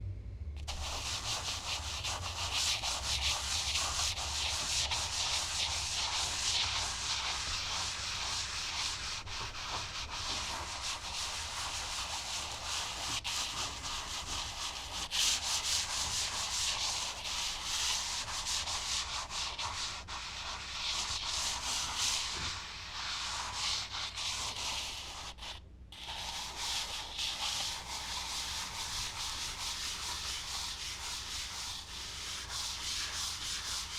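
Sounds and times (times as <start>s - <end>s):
charcoal rubbing on paper: 0.6s - 33.9s.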